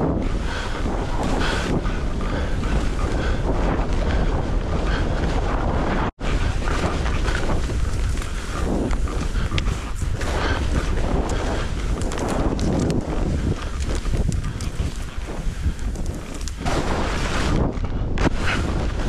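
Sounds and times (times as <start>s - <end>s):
wind buffeting microphone: 0.0s - 19.0s
skis scraping on snow: 0.2s - 19.0s.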